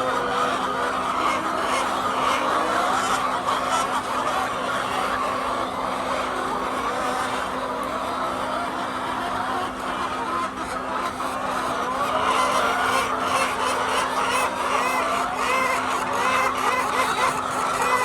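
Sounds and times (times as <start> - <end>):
hens squawking and clucking: 0.0 - 18.0.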